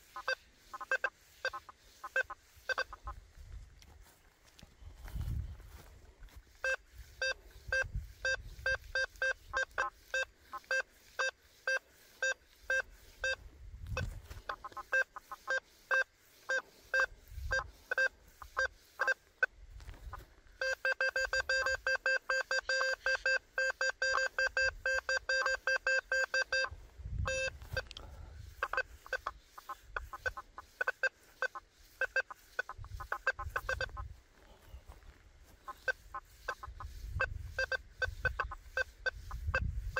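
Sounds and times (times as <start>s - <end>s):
metal detector buzzy beeps: 0.0s - 3.2s, 6.5s - 34.1s, 35.5s - 39.9s.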